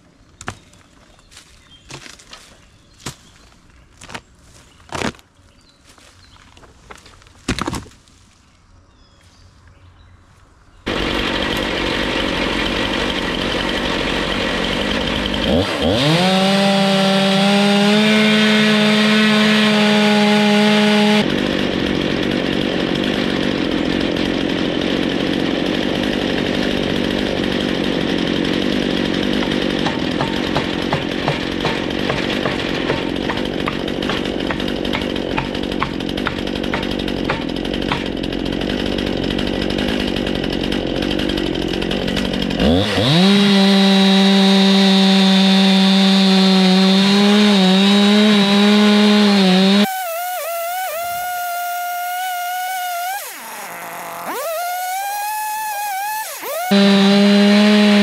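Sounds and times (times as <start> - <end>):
chainsaw cutting log: 10.9 - 58.0.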